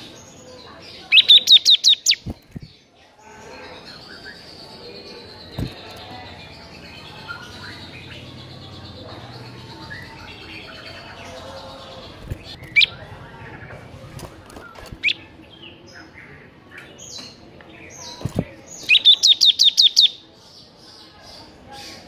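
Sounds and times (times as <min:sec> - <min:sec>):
small bird chirping and twittering: 0:00.0 - 0:22.0
varied bird calls: 0:01.0 - 0:02.7, 0:03.4 - 0:16.5, 0:17.1 - 0:20.2.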